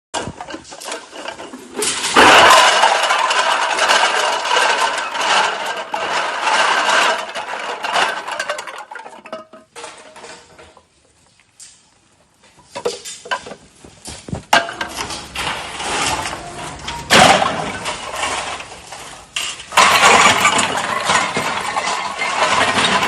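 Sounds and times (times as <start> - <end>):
metal cans clattering: 0.2 - 10.9, 12.6 - 23.0.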